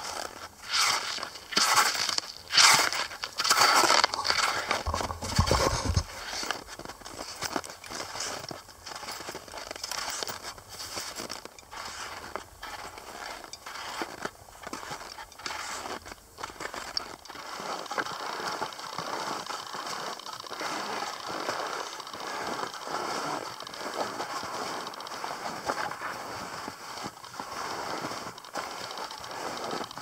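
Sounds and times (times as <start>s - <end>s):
skis sliding over crusty snow: 0.0s - 30.0s.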